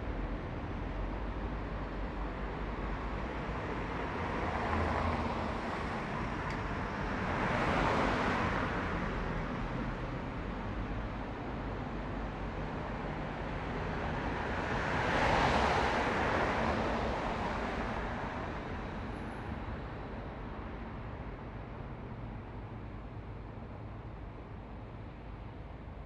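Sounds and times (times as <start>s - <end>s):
steady traffic noise: 0.0s - 26.0s.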